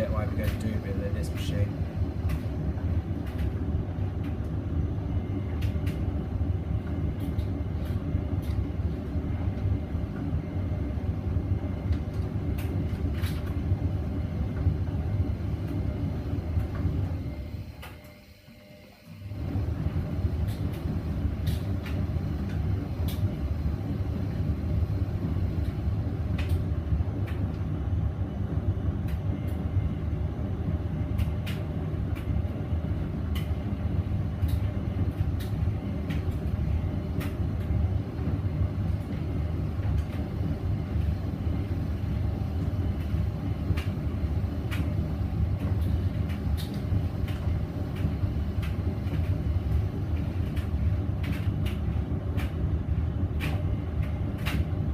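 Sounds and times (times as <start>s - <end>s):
washing machine rumbling: 0.0s - 18.2s, 19.2s - 54.9s.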